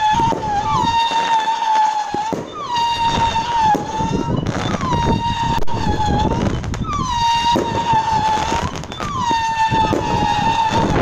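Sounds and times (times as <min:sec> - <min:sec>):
firework shells popping and bursting: 0:00.0 - 0:11.0
shrill firework whistles: 0:00.0 - 0:11.0.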